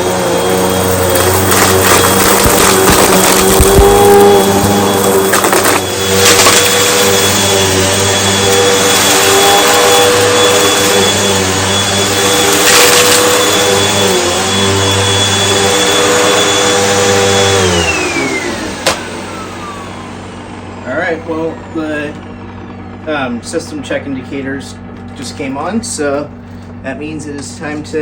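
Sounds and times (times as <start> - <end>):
vacuum cleaner running: 0.0 - 28.0
vacuum motor winding down: 0.0 - 28.0.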